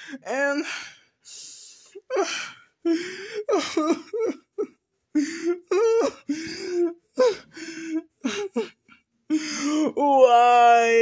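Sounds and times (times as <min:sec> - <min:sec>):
person whimpering and sobbing: 0:01.9 - 0:10.8.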